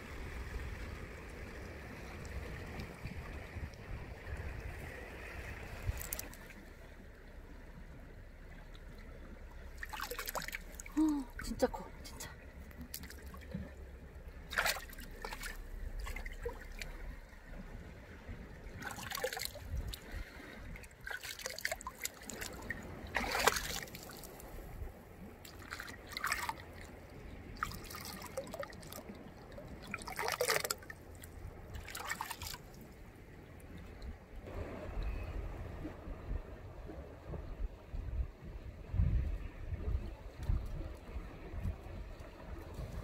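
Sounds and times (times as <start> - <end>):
steady low rumble: 0.0 - 29.9, 30.8 - 43.0
water trickling and splashing: 0.0 - 43.0.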